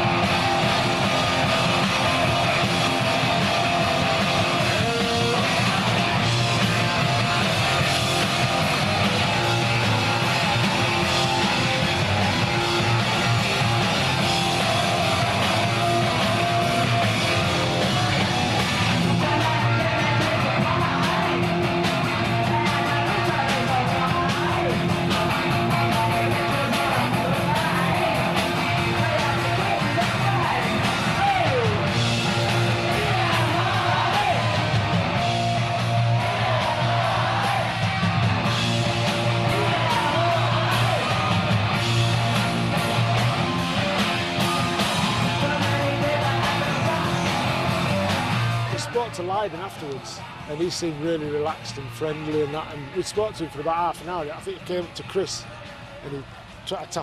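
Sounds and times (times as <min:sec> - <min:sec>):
punk rock band playing: 0:00.0 - 0:57.0.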